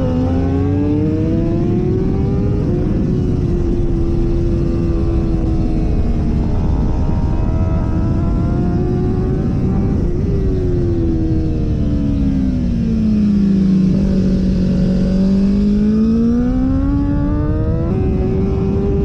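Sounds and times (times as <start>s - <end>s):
motorcycle engine: 0.0s - 19.0s
wind rush: 0.0s - 19.0s.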